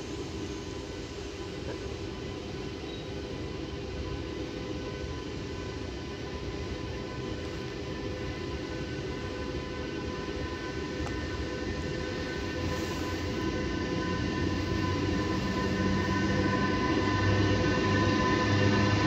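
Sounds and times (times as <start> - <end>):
train rumbling in station hall: 0.0 - 19.0.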